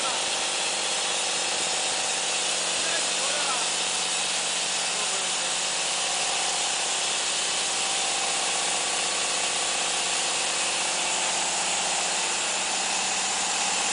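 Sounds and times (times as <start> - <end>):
band saw hissing: 0.0 - 13.9.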